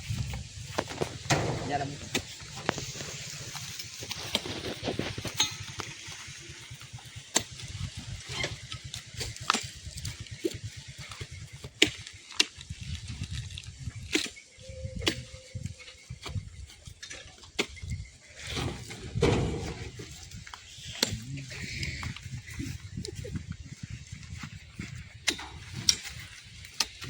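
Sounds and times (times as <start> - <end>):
low fluttering rumble: 0.0 - 16.9, 17.9 - 26.7.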